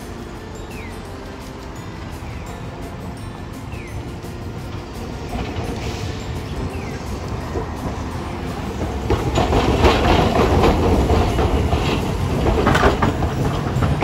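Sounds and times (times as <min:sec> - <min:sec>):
steel wheels clacking over rails: 0:00.0 - 0:14.0
tram rumbling past: 0:00.0 - 0:14.0.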